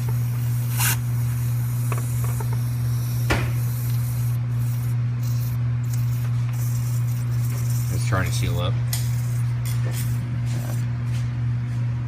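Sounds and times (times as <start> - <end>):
compressed air hissing: 0.0 - 10.7
steady low hum: 0.0 - 12.0.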